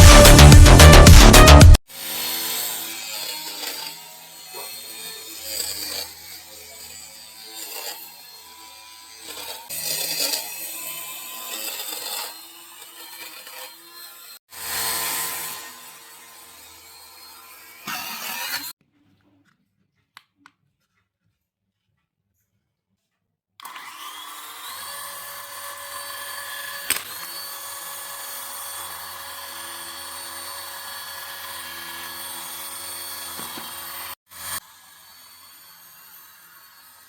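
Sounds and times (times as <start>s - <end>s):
small electric motor whining: 0.0s - 18.8s, 23.6s - 37.0s.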